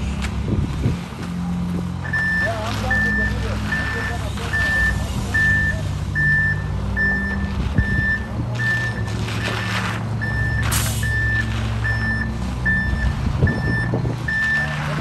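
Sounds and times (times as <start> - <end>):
diesel engine low hum: 0.0 - 15.0
truck reversing alarm beeps: 2.0 - 15.0.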